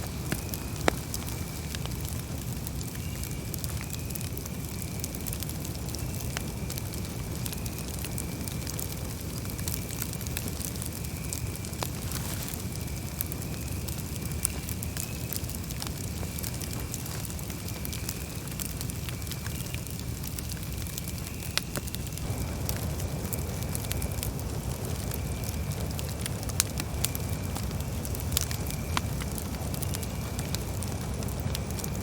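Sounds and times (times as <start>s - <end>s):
campfire rumble: 0.0s - 32.0s
wood crackling and popping: 0.0s - 32.0s.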